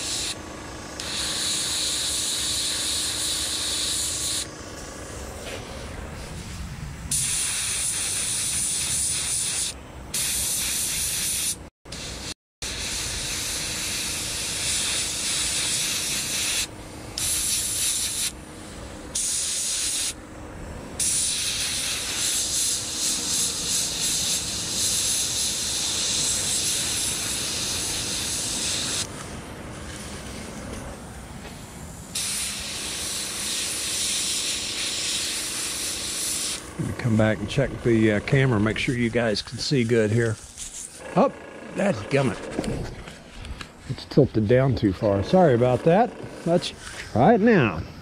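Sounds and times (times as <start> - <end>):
airbrush spraying hiss: 0.0 - 20.2, 21.0 - 30.8, 31.4 - 41.0.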